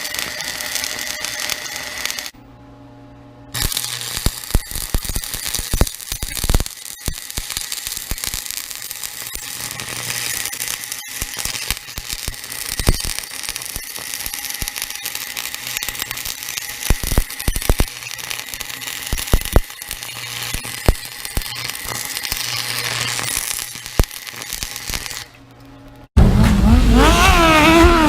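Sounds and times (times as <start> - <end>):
welding arc crackling and hissing: 0.0 - 2.3, 3.6 - 25.4, 26.6 - 28.0.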